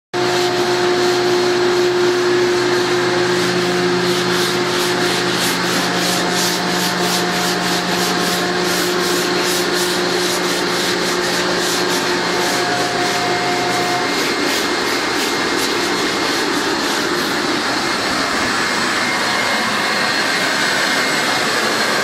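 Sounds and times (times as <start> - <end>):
rasping sanding strokes: 0.2 - 22.0
steady machine hum: 0.2 - 22.0.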